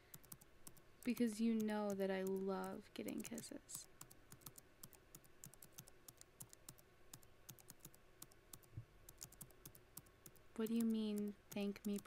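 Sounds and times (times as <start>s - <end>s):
computer keyboard typing: 0.0s - 12.0s.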